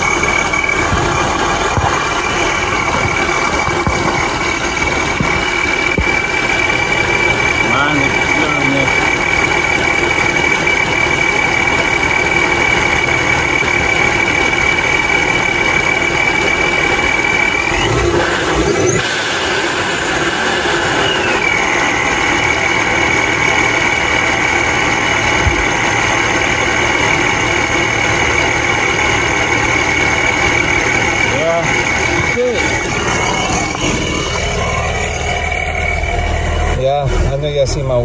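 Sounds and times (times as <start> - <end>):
car engine idling: 0.0 - 38.0
supercharger whine: 0.0 - 38.0.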